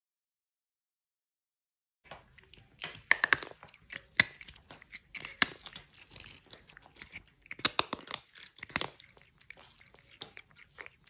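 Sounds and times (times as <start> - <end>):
cat chewing crunchy food: 2.1 - 11.0.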